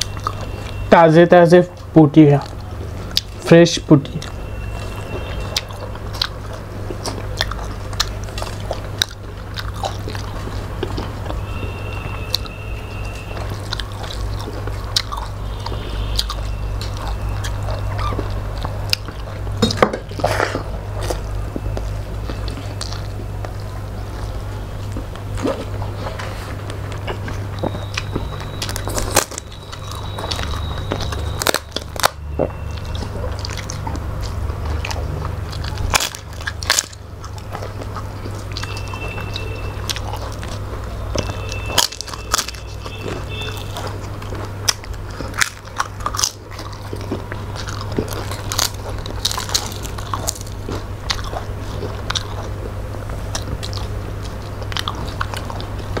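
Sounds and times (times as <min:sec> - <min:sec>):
wet chewing and lip smacks: 0:00.0 - 0:00.8, 0:01.6 - 0:56.0
steady low hum: 0:00.0 - 0:56.0.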